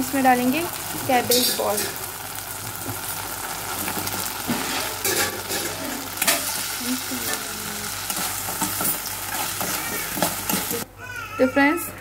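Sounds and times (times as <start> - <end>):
gravy sizzling in a wok: 0.0 - 10.9.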